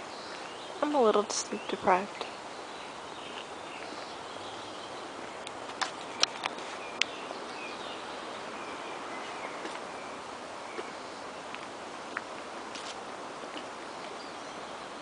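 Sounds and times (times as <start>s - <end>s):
birds chirping: 0.0s - 15.0s
wind rustling in trees: 0.0s - 15.0s.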